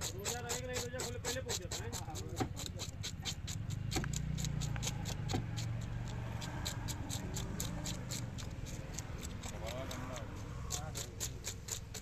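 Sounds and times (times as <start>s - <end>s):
knife scraping fish scales: 0.0s - 12.0s.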